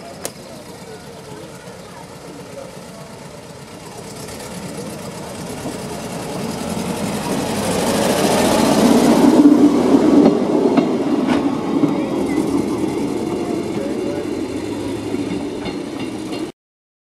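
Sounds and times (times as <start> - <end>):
rail trolley engine passing: 0.0 - 16.5.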